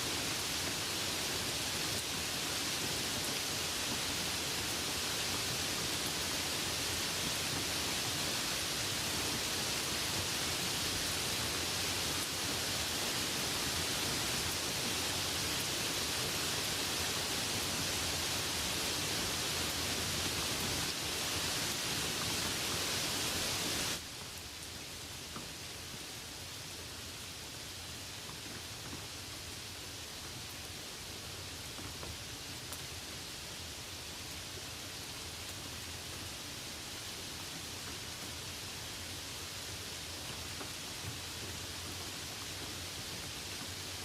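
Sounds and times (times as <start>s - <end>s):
faint raindrops: 0.0s - 44.0s
rain falling: 0.0s - 44.0s.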